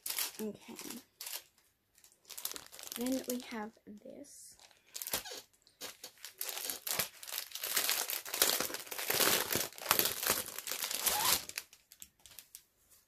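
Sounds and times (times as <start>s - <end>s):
plastic packaging crinkling: 0.0s - 3.7s, 4.6s - 12.6s.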